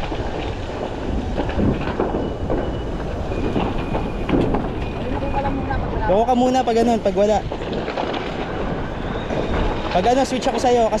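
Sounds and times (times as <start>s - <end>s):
cracks and knocks: 0.0s - 5.5s, 7.2s - 10.8s.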